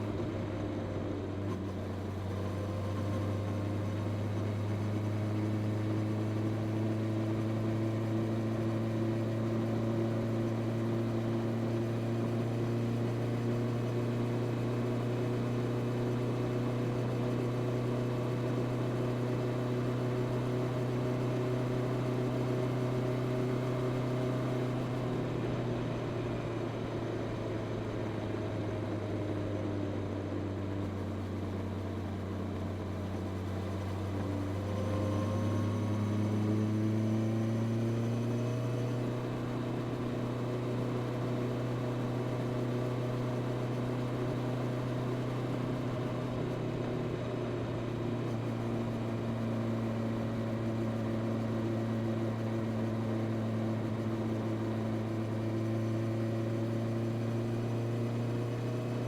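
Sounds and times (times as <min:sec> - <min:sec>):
motorcycle engine while riding: 0:00.0 - 0:59.0.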